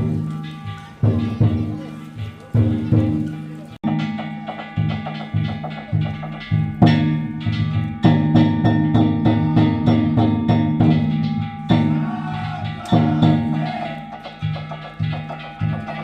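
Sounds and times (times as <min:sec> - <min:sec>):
drums: 0:00.0 - 0:16.0
small hand gongs ringing: 0:00.0 - 0:16.0.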